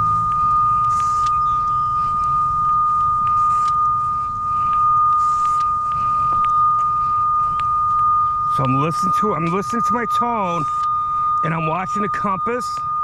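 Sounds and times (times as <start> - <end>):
high-pitched cable locator tone: 0.0 - 13.0.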